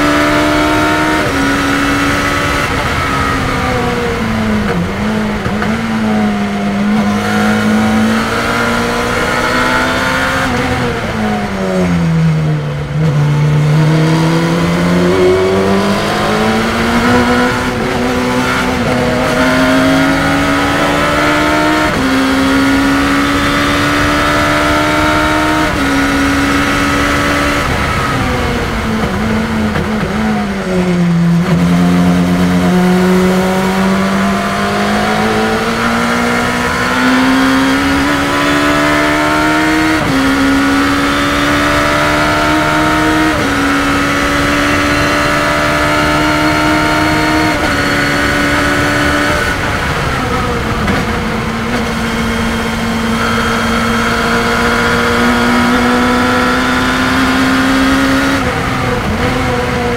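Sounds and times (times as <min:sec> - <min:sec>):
race car engine revving: 0:00.0 - 0:59.9
wind and road noise: 0:00.0 - 0:59.9.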